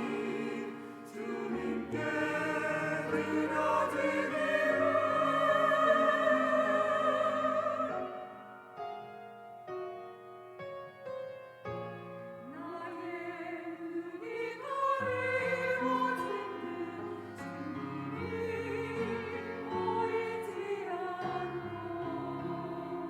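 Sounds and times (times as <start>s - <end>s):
choir singing: 0.0s - 8.8s, 12.4s - 23.0s
piano chords: 0.0s - 23.0s.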